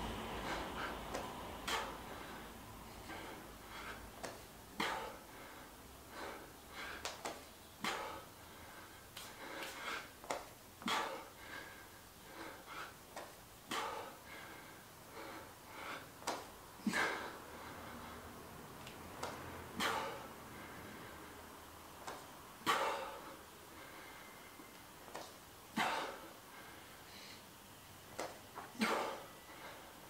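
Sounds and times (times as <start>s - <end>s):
man breathing hard: 0.0s - 27.6s, 28.7s - 30.0s.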